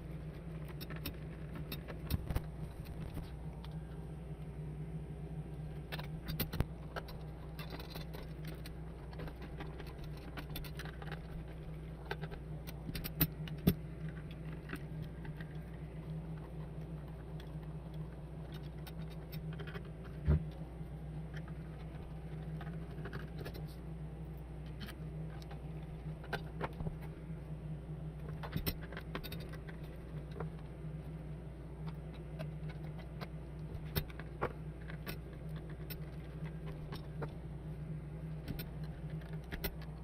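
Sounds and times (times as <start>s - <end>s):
low background hum: 0.0s - 40.0s
hands handling metal parts: 5.6s - 27.6s, 28.2s - 40.0s.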